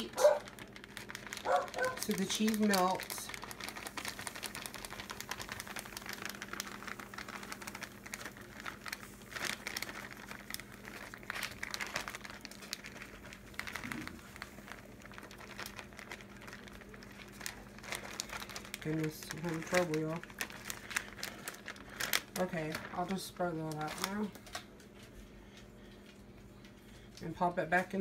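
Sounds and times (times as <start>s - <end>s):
cheese shreds ticking on metal: 0.0s - 22.5s
plastic bag crinkling: 0.0s - 28.0s.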